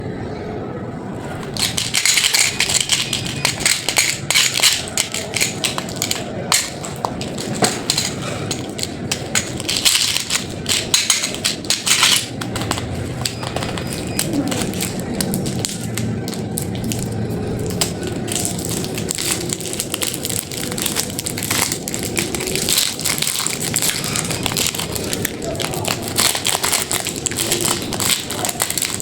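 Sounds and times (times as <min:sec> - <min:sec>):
candy wrappers crinkling: 0:01.2 - 0:29.0.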